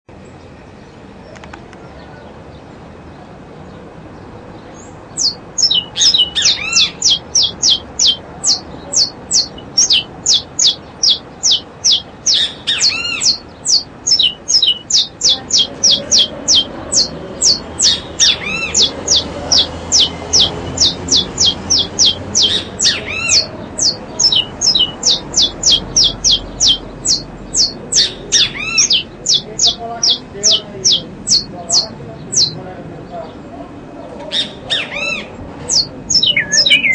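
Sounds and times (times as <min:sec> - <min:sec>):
birds squawking shrilly: 0:05.2 - 0:32.6, 0:34.3 - 0:36.9.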